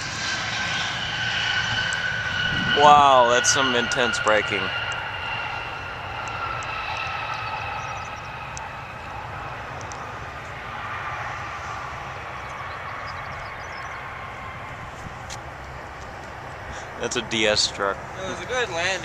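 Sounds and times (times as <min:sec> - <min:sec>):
jet engines spooling down: 0:00.0 - 0:19.0.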